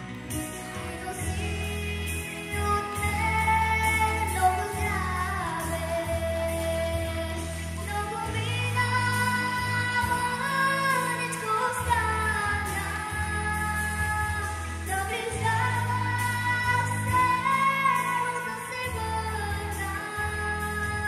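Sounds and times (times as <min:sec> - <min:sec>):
backing track with bass: 0:00.0 - 0:21.0
girl singing into microphone: 0:00.1 - 0:21.0.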